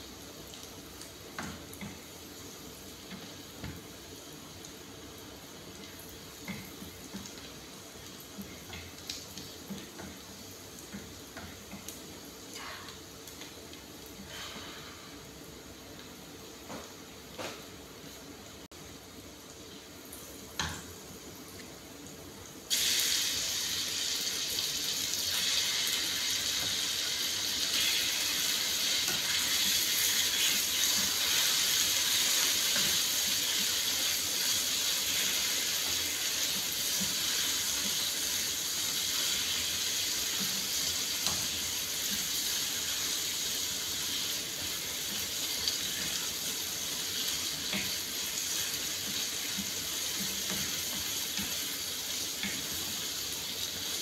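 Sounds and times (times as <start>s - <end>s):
chicken sizzling in hot oil: 0.0s - 12.7s, 22.7s - 54.0s.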